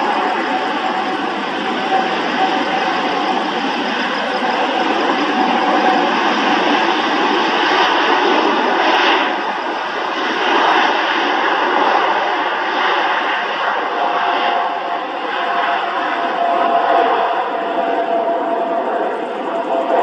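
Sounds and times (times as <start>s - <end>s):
jet engines running loud: 0.0s - 20.0s.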